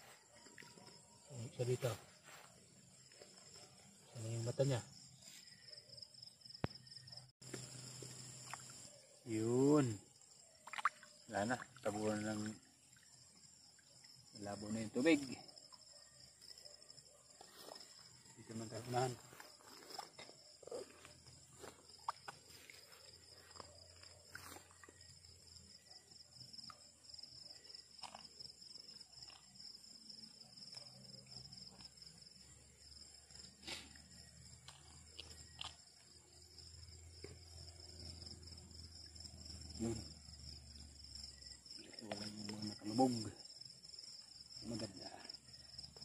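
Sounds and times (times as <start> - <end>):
night insects chorus: 0.0 - 46.0.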